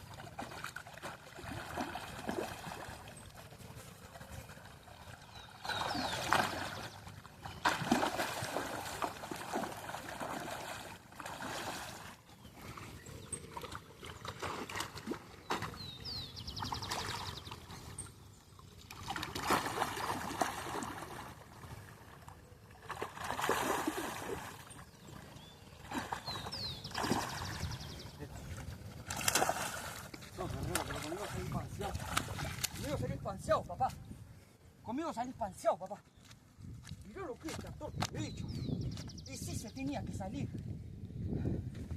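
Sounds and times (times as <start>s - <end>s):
water splashing and sloshing: 0.0s - 34.6s.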